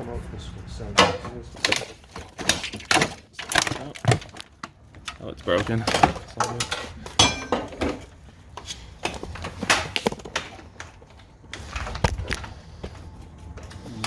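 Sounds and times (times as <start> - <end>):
car parts clattering: 0.8 - 14.0.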